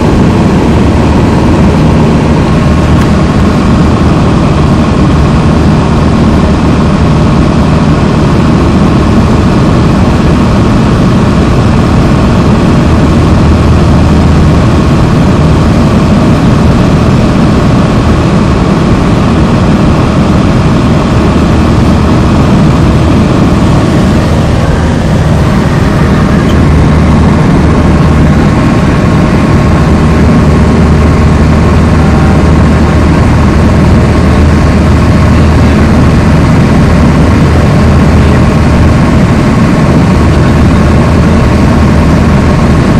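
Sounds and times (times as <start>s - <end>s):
light aircraft engine drone: 0.0s - 42.9s.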